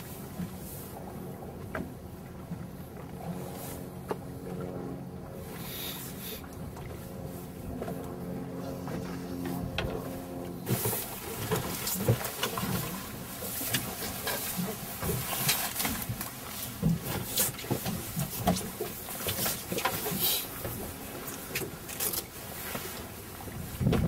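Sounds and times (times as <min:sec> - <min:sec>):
boat engine hum: 0:00.0 - 0:24.0.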